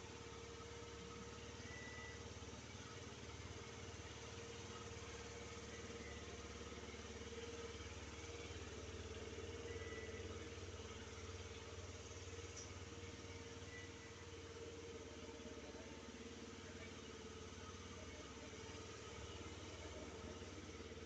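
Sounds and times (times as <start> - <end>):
scooter engine idling: 0.0 - 21.0.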